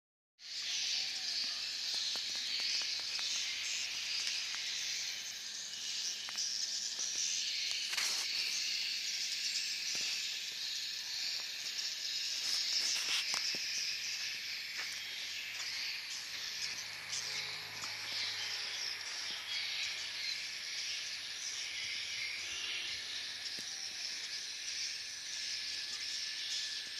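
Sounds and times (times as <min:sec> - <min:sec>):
swiftlets twittering chorus: 0:00.4 - 0:26.9.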